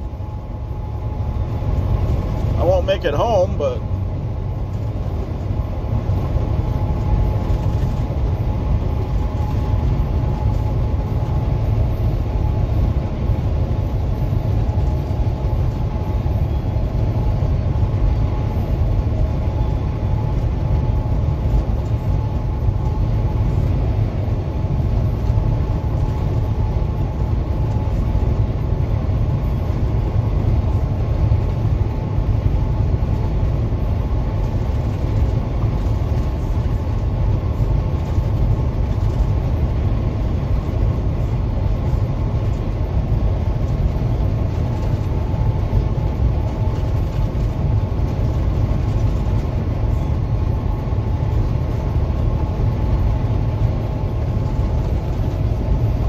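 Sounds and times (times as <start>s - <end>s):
vehicle road and engine rumble: 0.0s - 56.0s.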